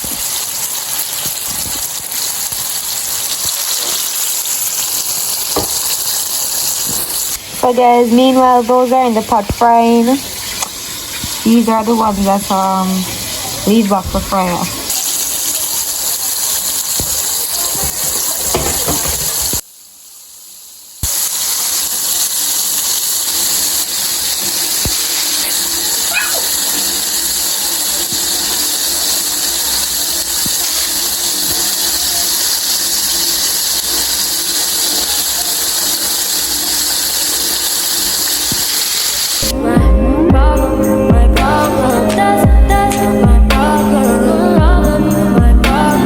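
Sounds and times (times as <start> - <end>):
chicken sizzling in hot oil: 0.0 - 39.5.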